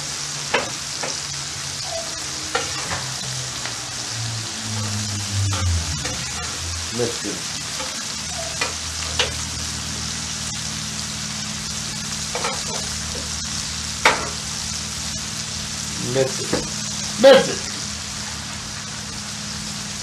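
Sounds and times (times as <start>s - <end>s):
meat and vegetables sizzling on griddle: 0.0s - 20.0s.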